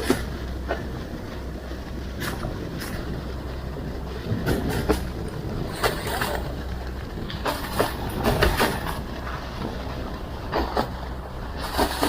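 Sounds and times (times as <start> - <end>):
boat engine droning: 0.0 - 12.0
waves hitting boat: 0.0 - 12.0.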